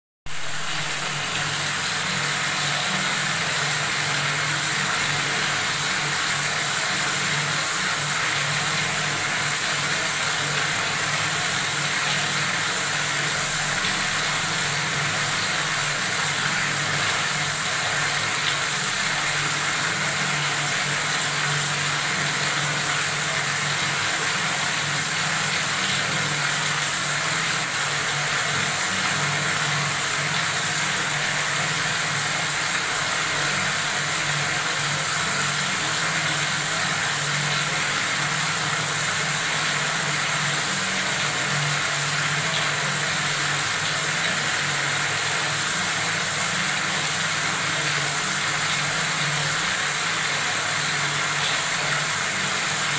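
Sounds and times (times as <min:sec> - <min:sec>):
water running from a faucet: 0:00.3 - 0:52.9.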